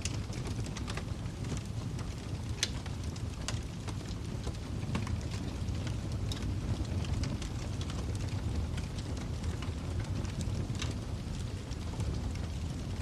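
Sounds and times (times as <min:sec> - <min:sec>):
fire crackles and pops: 0:00.0 - 0:13.0
flames roaring: 0:00.0 - 0:13.0.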